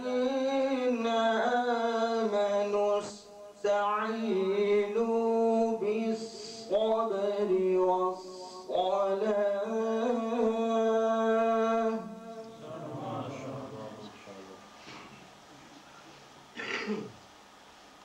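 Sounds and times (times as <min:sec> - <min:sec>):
man reciting melodically: 0:00.0 - 0:14.6.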